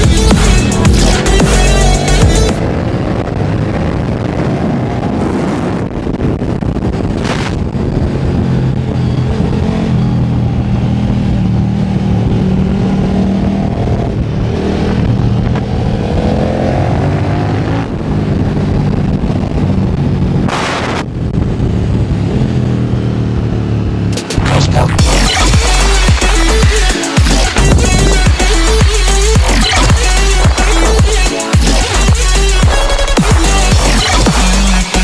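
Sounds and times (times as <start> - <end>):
motorcycle engine at speed: 0.0 - 35.0
rushes of noise: 0.0 - 35.0.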